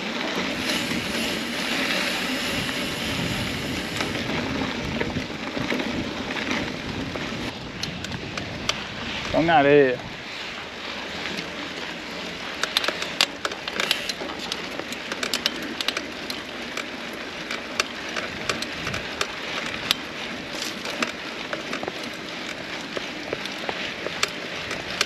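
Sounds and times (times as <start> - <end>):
bike tyres rolling on dirt trail: 0.0 - 25.0
grit and pebbles crackling: 0.0 - 25.0.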